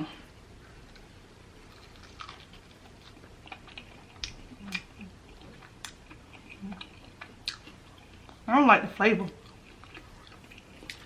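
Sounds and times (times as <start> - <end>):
person chewing crispy food: 0.6 - 8.5, 9.4 - 11.0.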